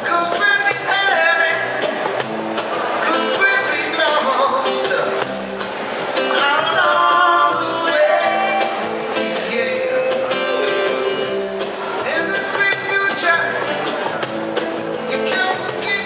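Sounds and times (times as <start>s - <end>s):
guitar playing: 0.0s - 16.0s.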